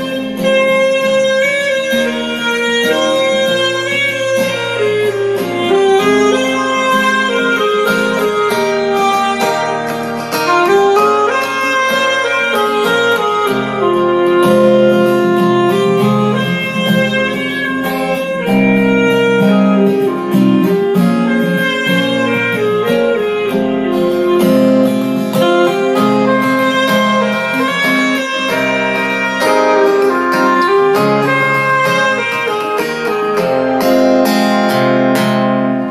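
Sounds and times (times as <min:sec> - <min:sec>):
instrumental music through speaker: 0:00.0 - 0:35.9.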